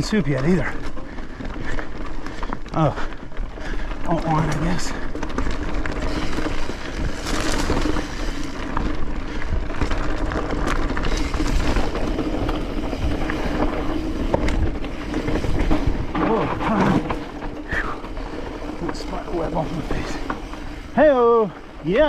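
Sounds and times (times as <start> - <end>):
bike rattling over bumps: 0.0 - 22.0
tyre noise on dirt: 0.0 - 22.0.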